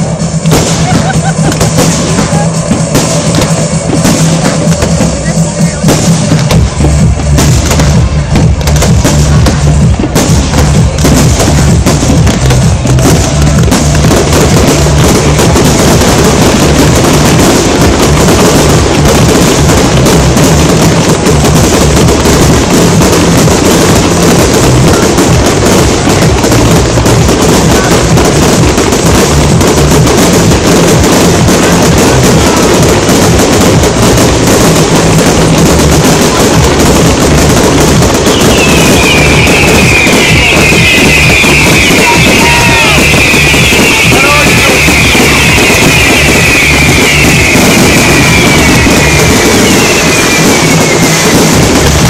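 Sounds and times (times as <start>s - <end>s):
fireworks bursting and crackling: 0.0s - 52.0s
music playing: 0.0s - 52.0s.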